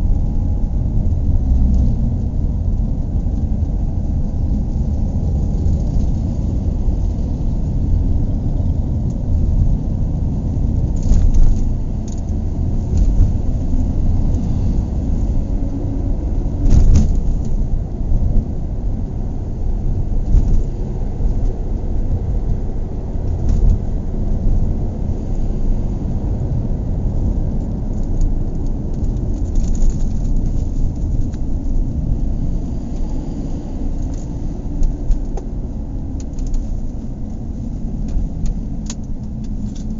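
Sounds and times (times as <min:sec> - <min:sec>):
road and engine rumble in car: 0:00.0 - 0:39.9.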